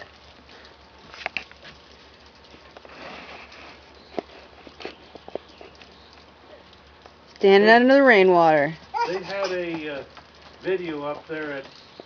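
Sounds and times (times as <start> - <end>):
rainwater dripping off roof: 0.0 - 12.0.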